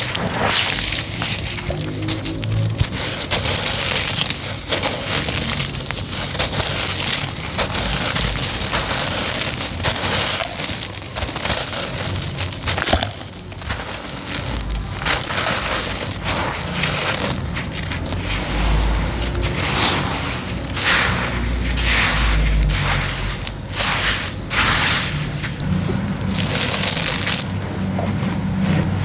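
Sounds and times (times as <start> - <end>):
cement crumbling and crunching: 0.0 - 29.0.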